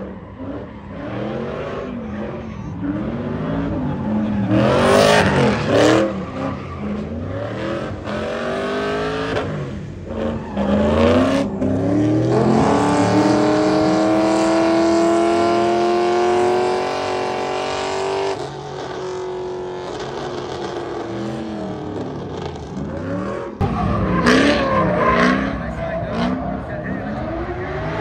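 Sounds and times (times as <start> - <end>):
car engine revving high: 0.0 - 28.0.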